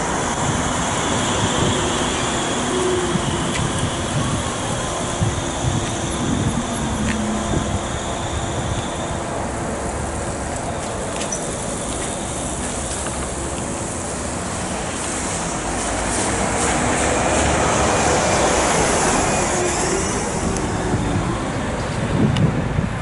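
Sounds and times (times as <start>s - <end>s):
road traffic: 0.0s - 23.0s
trolleybus passing: 0.0s - 23.0s.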